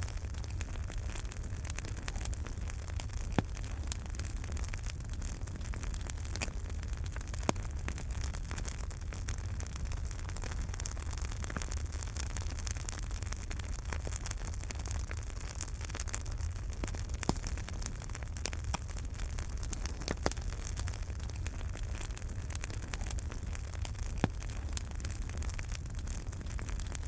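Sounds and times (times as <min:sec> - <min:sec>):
fire crackles and pops: 0:00.0 - 0:27.0
fire rumble and hiss: 0:00.0 - 0:27.0.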